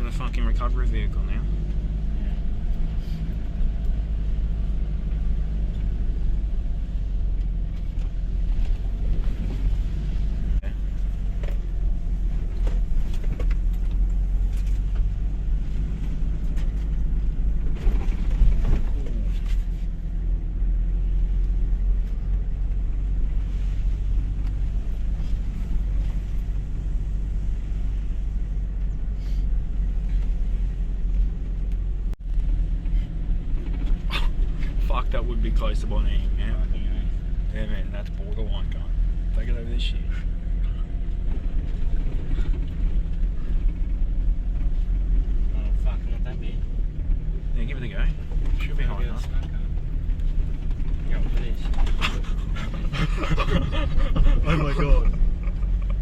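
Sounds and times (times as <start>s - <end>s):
engine drone: 0.0s - 56.0s
low road rumble: 0.0s - 56.0s.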